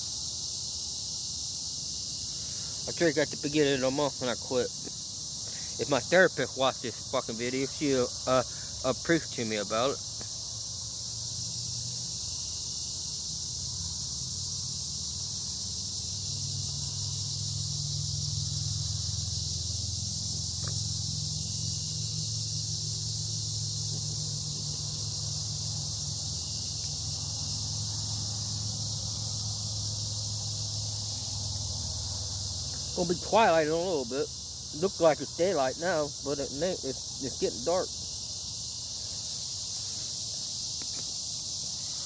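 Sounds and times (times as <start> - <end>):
crickets and insects chirping: 0.0 - 42.0.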